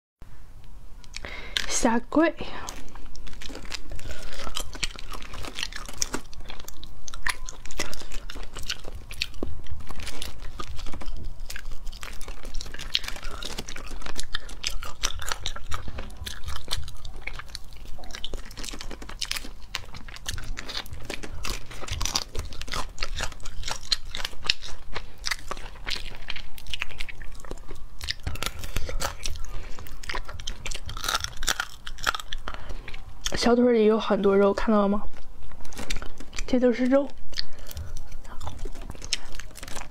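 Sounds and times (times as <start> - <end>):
biting and chewing: 1.0 - 39.9
shells crackling and crunching: 1.0 - 39.9.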